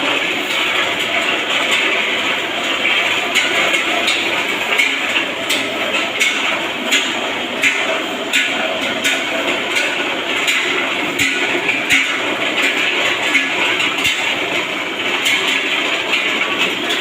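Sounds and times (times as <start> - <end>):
construction clattering din: 0.0 - 17.0.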